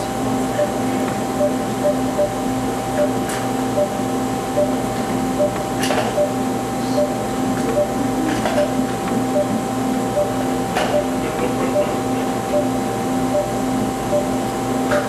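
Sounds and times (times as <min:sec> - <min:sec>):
steady electronic hum: 0:00.0 - 0:15.0
monitor beeping: 0:00.6 - 0:14.9.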